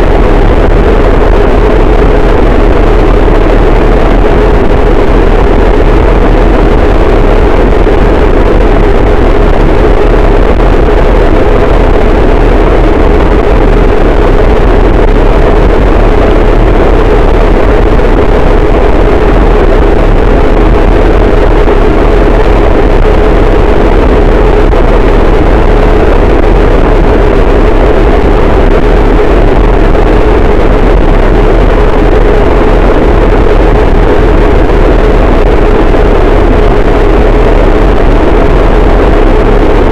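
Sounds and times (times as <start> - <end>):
distorted noise wall: 0.0 - 39.9.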